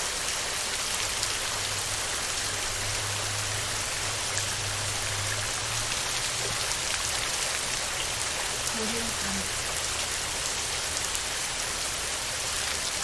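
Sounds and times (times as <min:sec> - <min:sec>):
heavy rain on a tin roof: 0:00.0 - 0:13.0.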